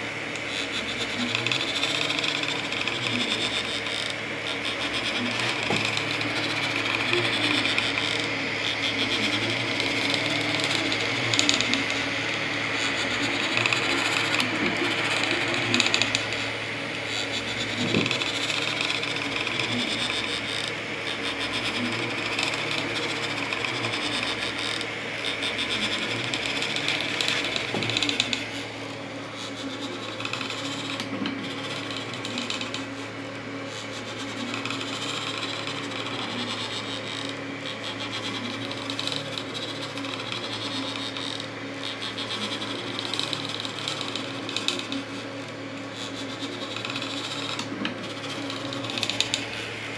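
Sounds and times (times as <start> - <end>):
cooling fans humming: 0.0 - 49.9
stepper motors whirring: 0.0 - 49.9.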